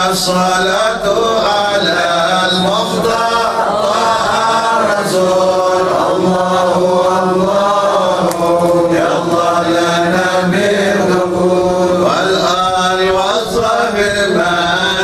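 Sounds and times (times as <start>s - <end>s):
men chanting devotional verses: 0.0s - 15.0s
person chanting into a microphone: 0.0s - 15.0s.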